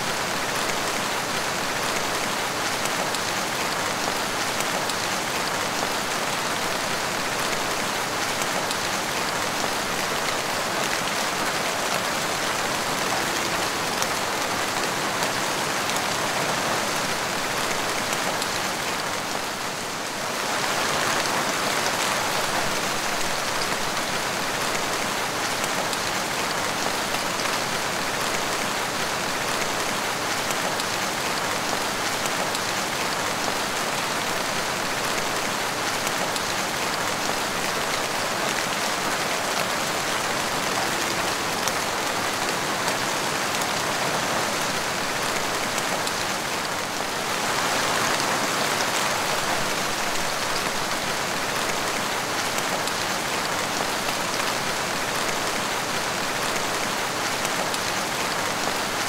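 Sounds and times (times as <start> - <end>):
rain splashing on tiled floor: 0.1 - 59.0.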